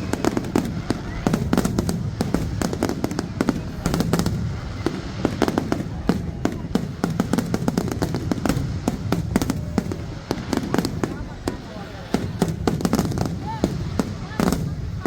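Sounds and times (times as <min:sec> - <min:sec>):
fireworks bangs and cracks: 0:00.0 - 0:15.0
low rumble of fireworks barrage: 0:00.0 - 0:15.0.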